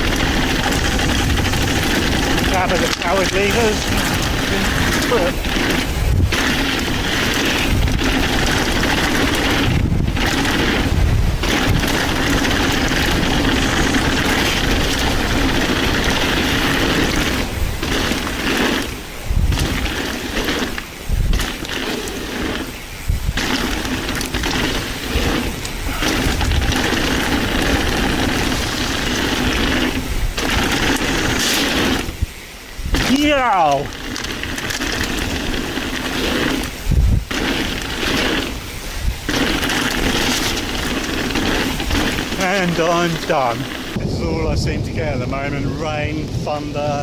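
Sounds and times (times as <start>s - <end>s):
bike rolling rumble: 0.0s - 47.0s
wind rushing over microphone: 0.0s - 47.0s.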